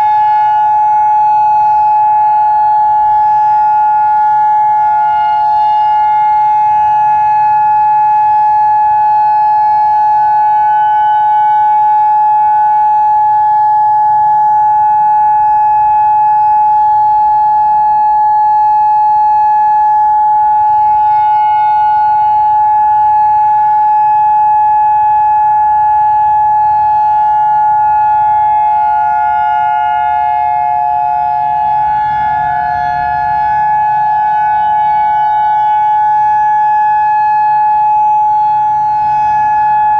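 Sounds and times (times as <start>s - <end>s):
distant sirens: 0.0s - 39.9s
outdoor warning siren steady tone: 0.0s - 39.9s.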